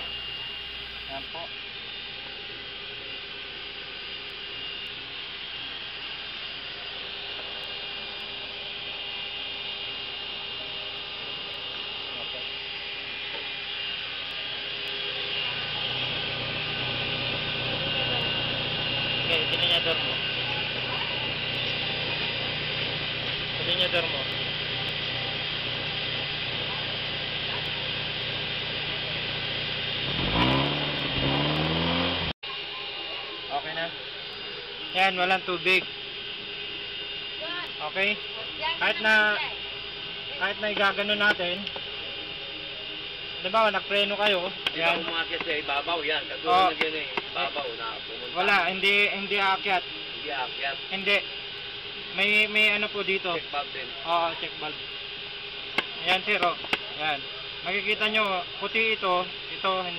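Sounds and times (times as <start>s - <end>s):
generator hiss and hum: 0.0s - 59.9s
car engine idling and revving: 4.9s - 32.8s, 33.4s - 59.9s.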